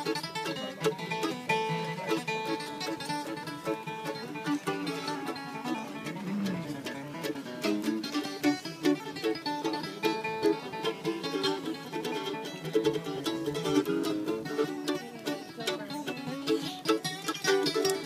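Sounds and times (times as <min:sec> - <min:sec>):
acoustic string band jamming: 0:00.0 - 0:18.0.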